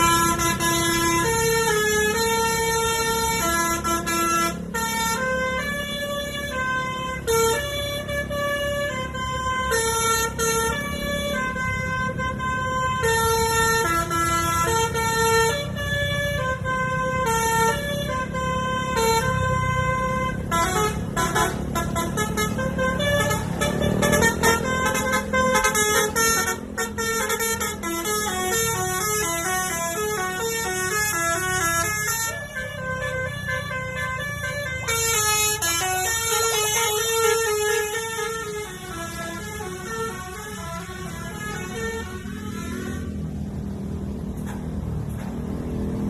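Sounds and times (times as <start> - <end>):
musical bus horn melody: 0.0 - 43.5
bus engine running: 0.0 - 46.0.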